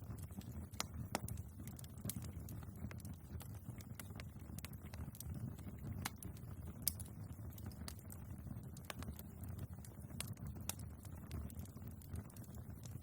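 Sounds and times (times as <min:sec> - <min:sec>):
crackles and pops from logs: 0:00.0 - 0:13.0
fire low rumble: 0:00.0 - 0:13.0.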